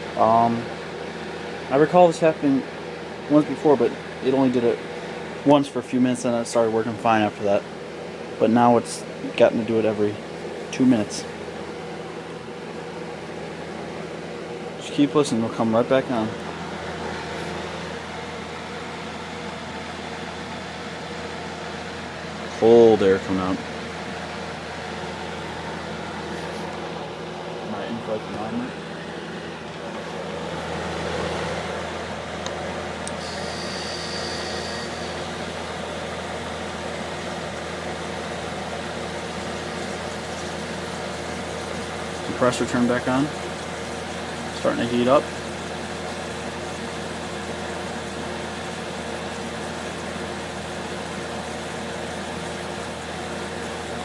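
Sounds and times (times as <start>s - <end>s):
dehumidifier fan hum and whoosh: 0.0s - 54.0s.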